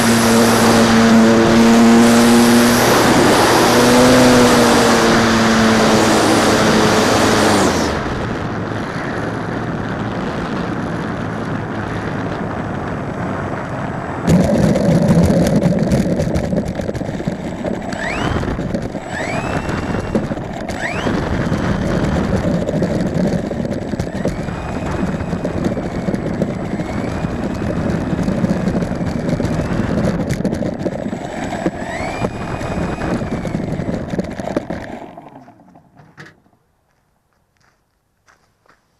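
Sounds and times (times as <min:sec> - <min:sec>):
rising motor whines: 0:00.0 - 0:09.4, 0:14.1 - 0:36.2
model plane motor: 0:00.0 - 0:09.7, 0:14.2 - 0:36.4
wind noise on microphone: 0:00.0 - 0:36.4.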